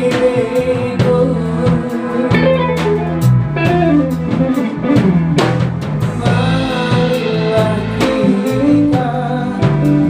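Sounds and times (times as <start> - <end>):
bass guitar: 0.0 - 10.0
drum kit: 0.0 - 10.0
guitar: 0.0 - 10.0.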